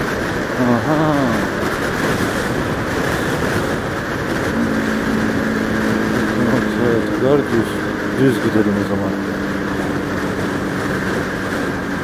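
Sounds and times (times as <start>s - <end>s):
motorcycle engine drone: 0.0s - 12.0s
wind rush: 0.0s - 12.0s.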